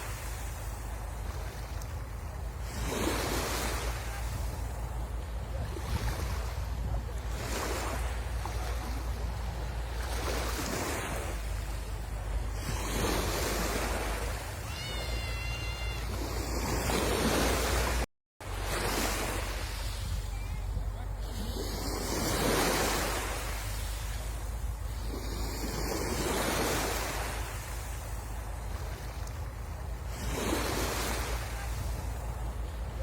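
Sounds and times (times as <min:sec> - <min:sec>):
wind rumble on microphone: 0:00.0 - 0:14.7, 0:15.9 - 0:33.0
sea waves breaking on shore: 0:00.0 - 0:33.0.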